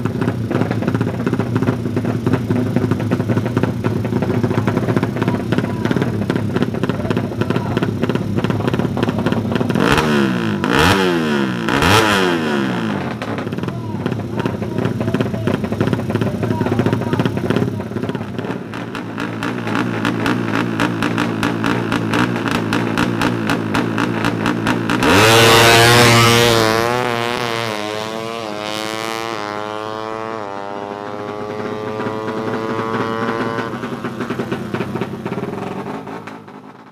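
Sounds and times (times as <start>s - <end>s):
motorcycle engine revving and accelerating: 0.0s - 36.9s.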